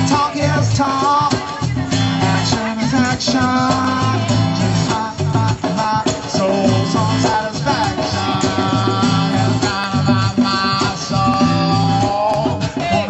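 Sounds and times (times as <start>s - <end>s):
live band music with guitar: 0.0s - 13.0s.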